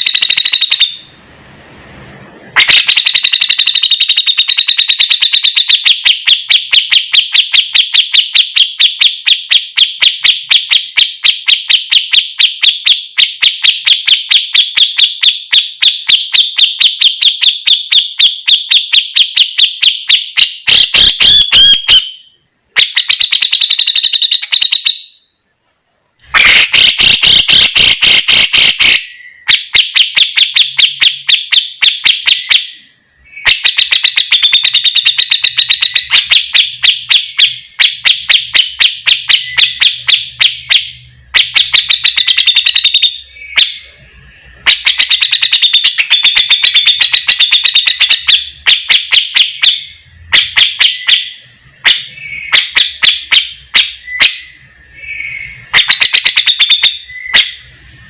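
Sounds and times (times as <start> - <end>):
bird singing rapid repeated notes: 2.6 - 25.4, 26.2 - 58.0.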